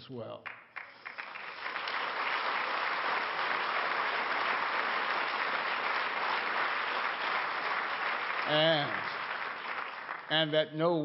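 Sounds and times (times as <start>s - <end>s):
audience applauding: 0.4s - 10.6s.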